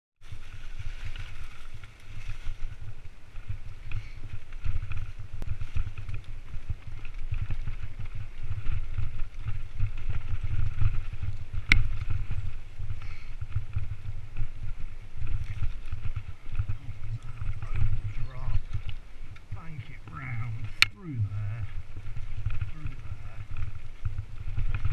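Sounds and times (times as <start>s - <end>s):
bike rattle: 0.2s - 24.9s
bike tyre rumble: 0.2s - 24.9s
wind buffeting microphone: 0.2s - 24.9s.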